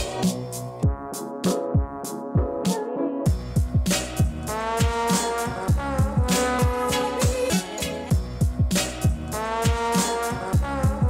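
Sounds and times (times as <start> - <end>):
music with driving drum beat: 0.0 - 11.0.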